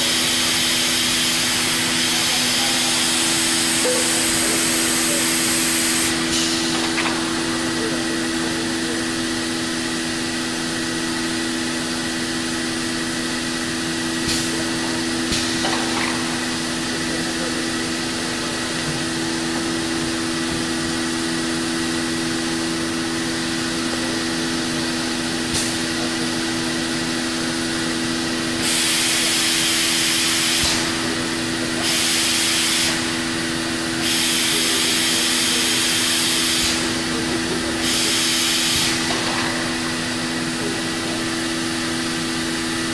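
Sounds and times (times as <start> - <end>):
machine humming with high whine: 0.0 - 42.9.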